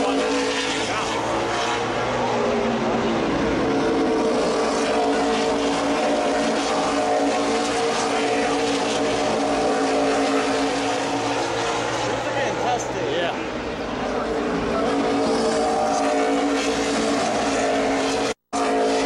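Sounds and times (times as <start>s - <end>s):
race car engines running: 0.0s - 19.0s.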